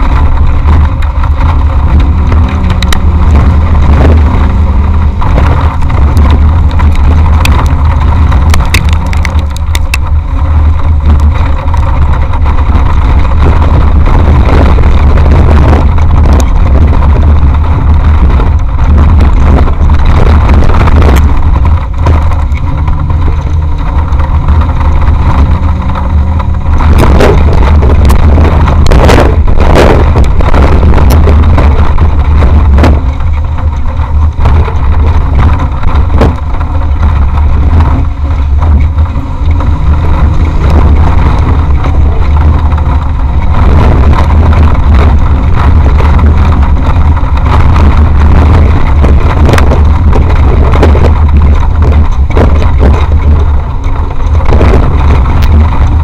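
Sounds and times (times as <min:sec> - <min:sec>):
body knocks and rattles: 0:00.0 - 0:56.0
off-road vehicle engine rumble: 0:00.0 - 0:56.0.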